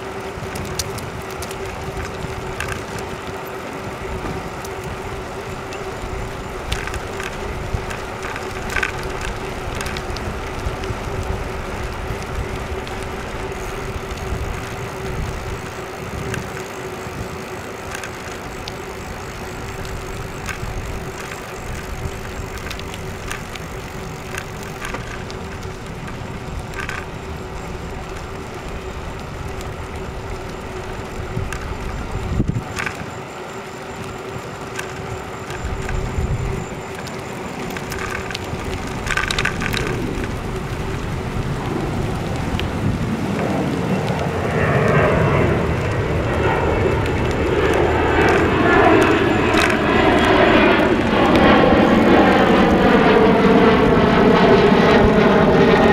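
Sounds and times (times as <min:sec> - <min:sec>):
bicycle clicks and rattles: 0:00.0 - 0:55.9
bicycle rolling on pavement: 0:00.0 - 0:55.9.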